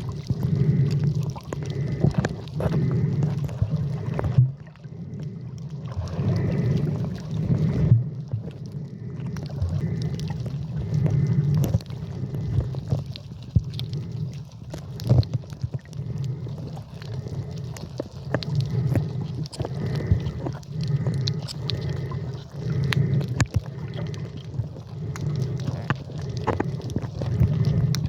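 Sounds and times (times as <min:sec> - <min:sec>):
muffled water sloshing and gurgling: 0:00.0 - 0:28.0.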